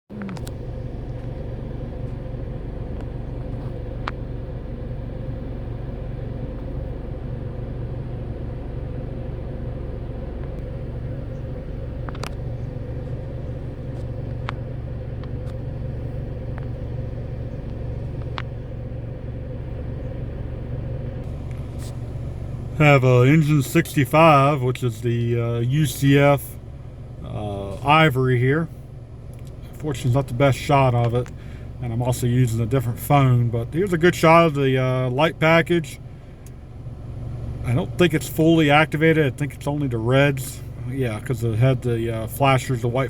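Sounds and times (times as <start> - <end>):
vehicle engine idling: 0.1 - 43.0.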